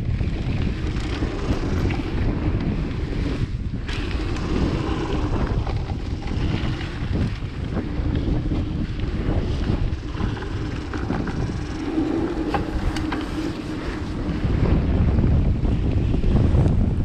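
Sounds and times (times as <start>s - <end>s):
low rumble: 0.0s - 17.0s
wind buffeting microphone: 0.0s - 17.0s
bike clicks and knocks: 0.1s - 14.0s.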